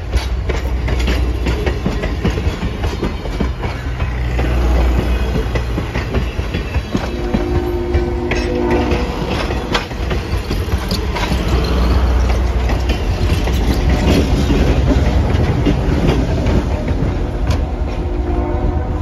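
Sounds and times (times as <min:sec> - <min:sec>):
diesel locomotive engine hum: 0:00.0 - 0:19.0
train wheels rumbling on rails: 0:00.0 - 0:19.0.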